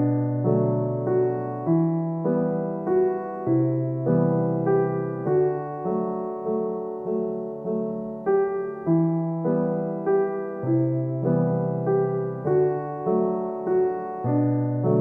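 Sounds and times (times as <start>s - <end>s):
soft electric piano melody: 0.0s - 15.0s.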